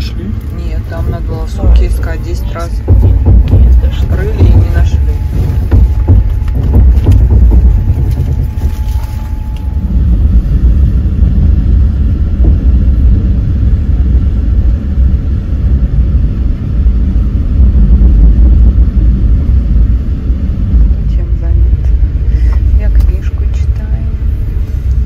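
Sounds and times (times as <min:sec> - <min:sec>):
low rumble of passenger train: 0:00.0 - 0:25.0.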